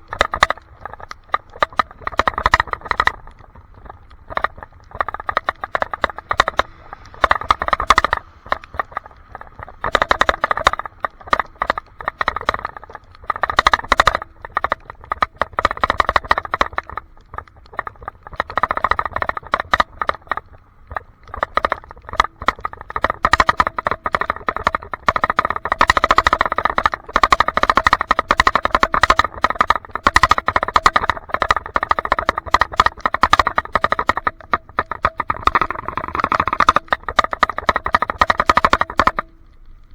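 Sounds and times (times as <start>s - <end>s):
rapid irregular rattling: 0.0s - 39.9s.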